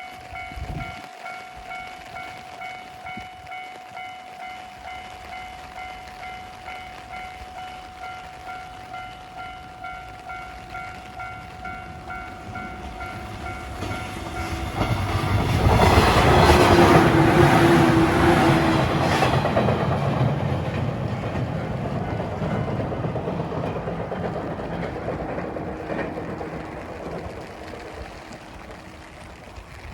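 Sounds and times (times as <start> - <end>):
level crossing warning bell: 0.0 - 27.2
train passing: 0.0 - 29.9.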